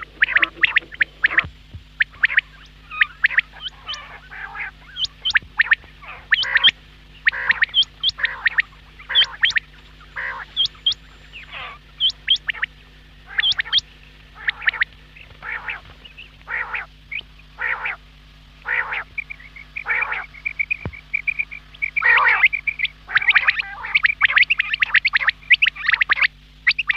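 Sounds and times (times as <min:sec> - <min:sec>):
faint low hum: 0:00.0 - 0:26.9
quail calling: 0:00.0 - 0:26.9.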